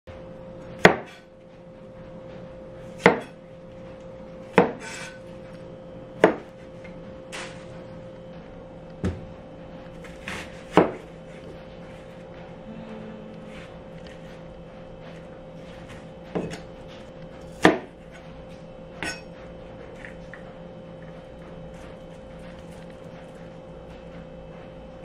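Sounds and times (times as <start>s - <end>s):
faint steady hum: 0.1s - 25.0s.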